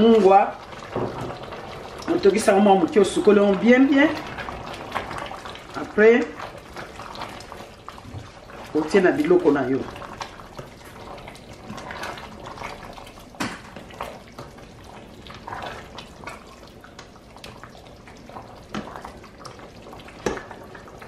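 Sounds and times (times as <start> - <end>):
stew sloshing and bubbling: 0.0 - 21.0.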